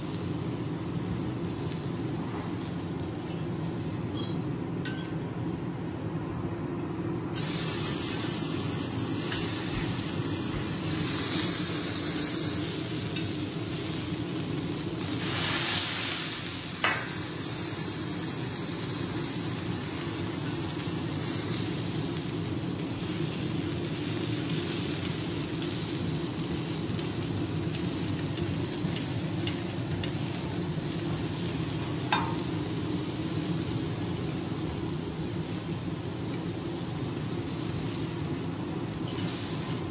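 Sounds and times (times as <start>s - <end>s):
steaks sizzling on a griddle: 0.0s - 3.1s, 7.4s - 39.9s.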